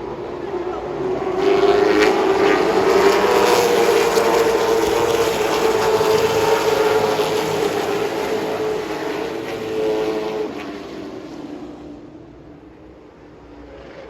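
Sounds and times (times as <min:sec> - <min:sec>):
race car engine running hard: 0:00.0 - 0:14.0.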